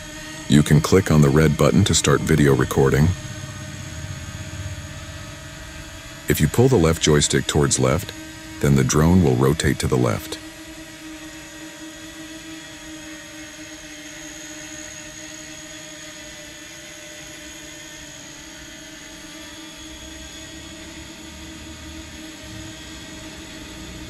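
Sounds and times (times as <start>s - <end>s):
drone propellers humming: 0.0s - 24.0s.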